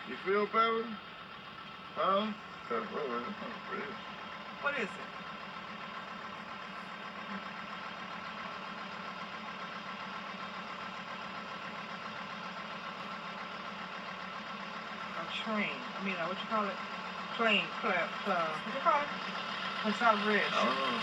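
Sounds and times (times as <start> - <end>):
steady engine-like drone: 0.0 - 21.0.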